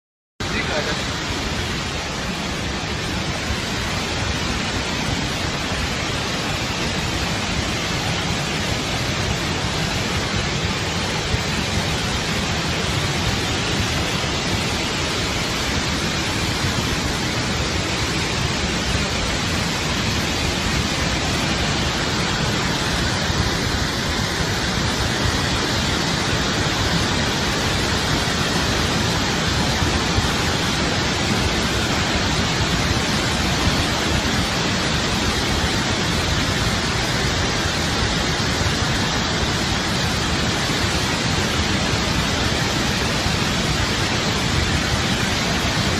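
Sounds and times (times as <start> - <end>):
floodwater rushing: 0.4 - 45.9.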